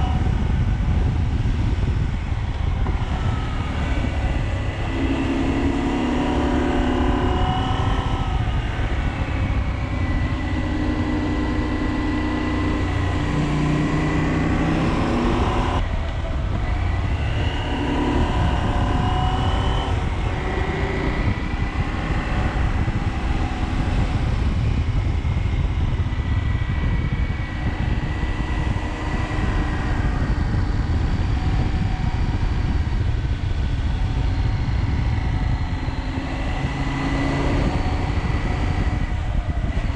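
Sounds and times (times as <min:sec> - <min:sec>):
motorcycle engine running: 0:00.0 - 0:39.9
steady low rumble: 0:00.0 - 0:39.9.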